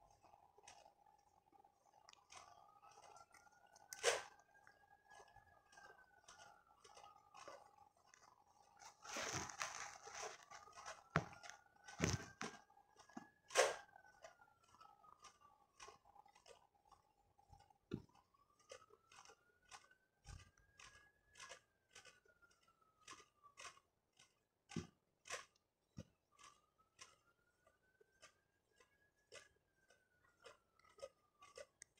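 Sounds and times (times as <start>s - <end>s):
pastry crackling and crunching: 0.0s - 31.9s.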